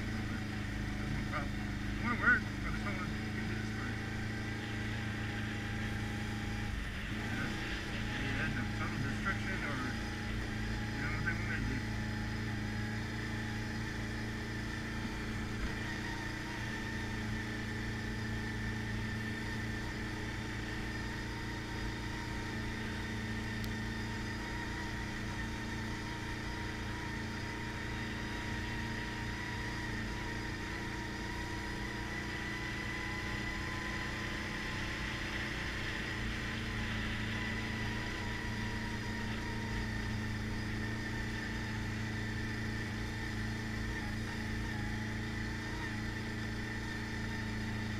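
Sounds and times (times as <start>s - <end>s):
atv engine droning: 0.0s - 47.9s.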